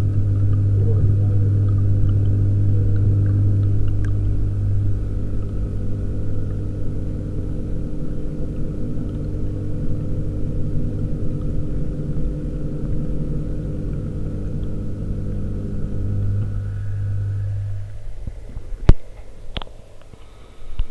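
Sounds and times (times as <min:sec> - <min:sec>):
aquarium pump humming underwater: 0:00.0 - 0:20.9.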